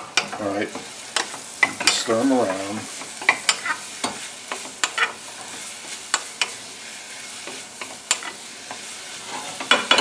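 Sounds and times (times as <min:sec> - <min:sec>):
apples sizzling in butter: 0:00.0 - 0:10.0.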